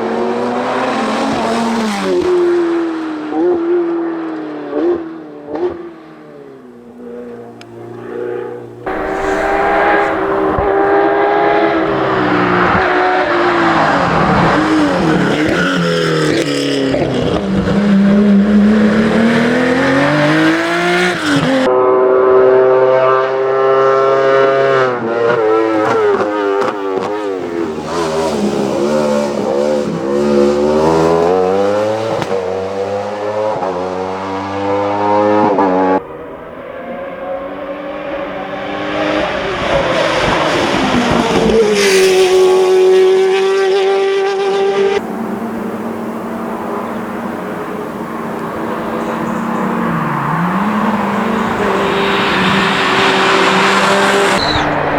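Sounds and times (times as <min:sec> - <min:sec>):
race car engines accelerating: 0:00.0 - 0:54.9.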